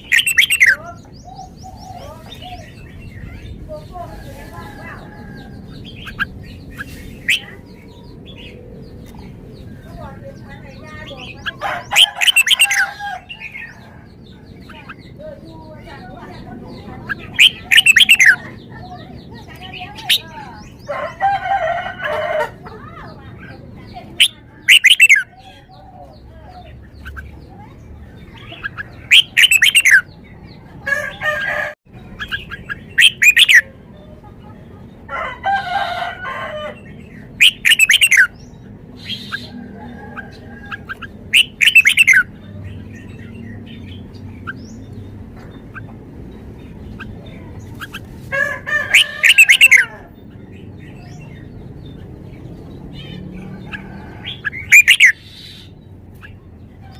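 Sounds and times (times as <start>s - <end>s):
bird singing warbled phrases: 0.0s - 56.9s.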